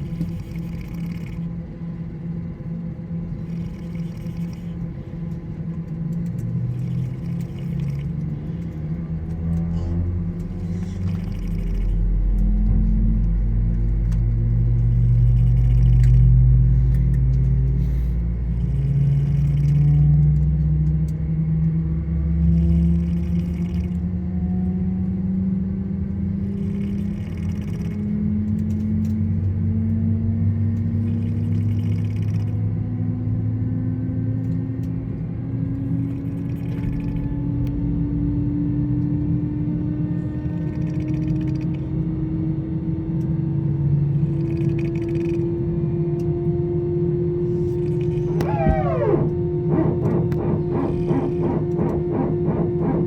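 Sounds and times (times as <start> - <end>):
engine rumble rising in pitch: 0.0 - 27.2, 27.8 - 53.0.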